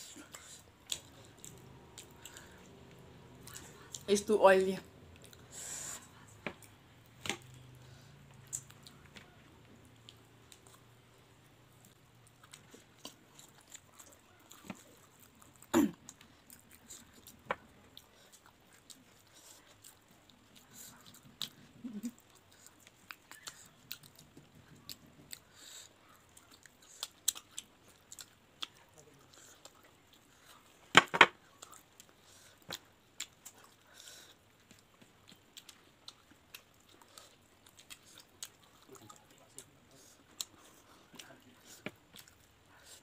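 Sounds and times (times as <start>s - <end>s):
chewing and crunching: 0.0s - 4.3s, 5.0s - 43.0s.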